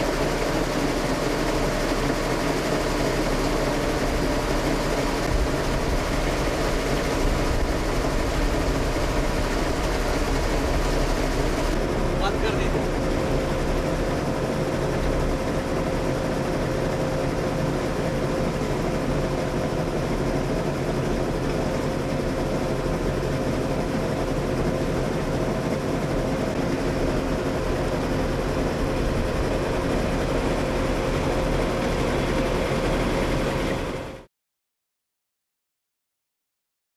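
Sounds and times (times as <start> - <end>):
motorboat engine droning: 0.0 - 34.3.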